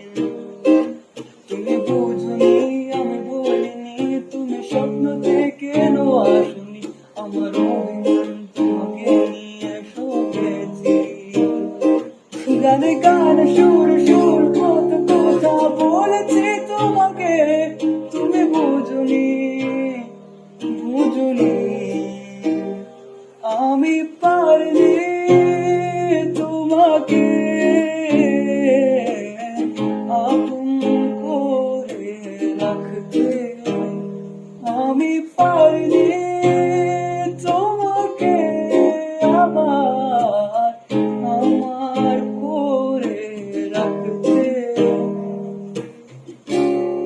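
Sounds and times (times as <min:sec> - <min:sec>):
plucked string instrument chords: 0:00.0 - 0:47.0
wordless vocal melody: 0:00.0 - 0:47.0.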